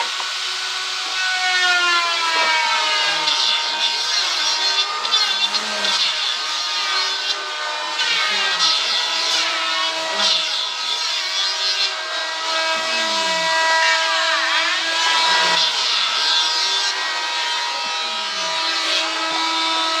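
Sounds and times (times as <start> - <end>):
power tool motor hum: 0.0 - 20.0
sawing wood: 0.0 - 20.0.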